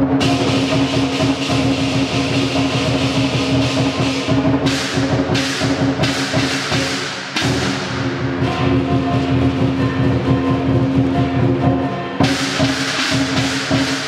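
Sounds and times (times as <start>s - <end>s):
cymbal crashes: 0.0s - 14.0s
drumming: 0.0s - 14.0s.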